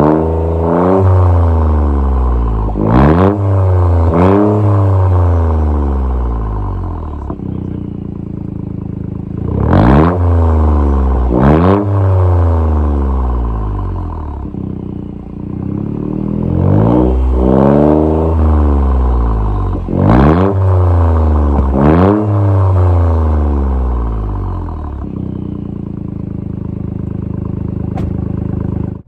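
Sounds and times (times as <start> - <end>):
car engine revving: 0.0 - 29.0
car engine idling: 0.4 - 29.0.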